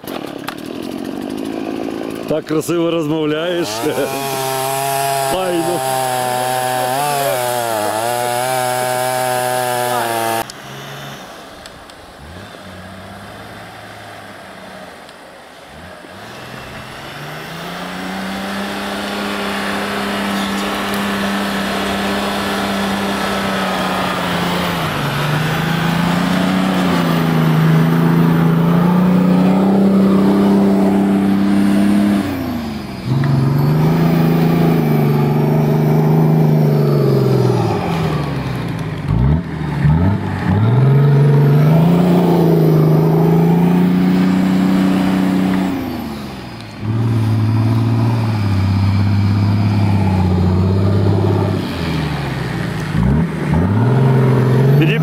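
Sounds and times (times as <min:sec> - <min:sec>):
motor engines revving: 0:00.0 - 0:55.0.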